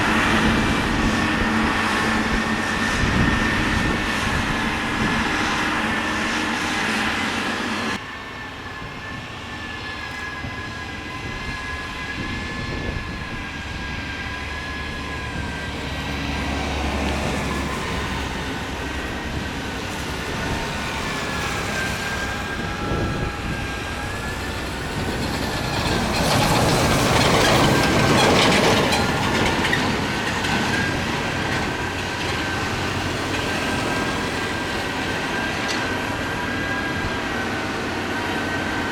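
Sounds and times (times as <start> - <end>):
motor grader engine drone: 0.0 - 38.9.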